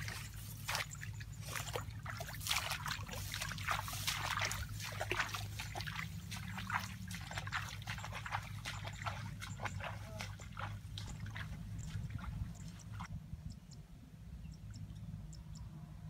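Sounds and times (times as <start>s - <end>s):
footsteps through wet grass: 0.0s - 13.1s
steady low hum: 0.0s - 16.0s.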